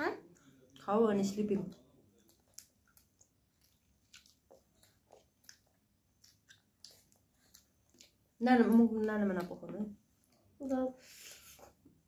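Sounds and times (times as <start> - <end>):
faint chewing and mouth sounds: 0.0 - 12.0.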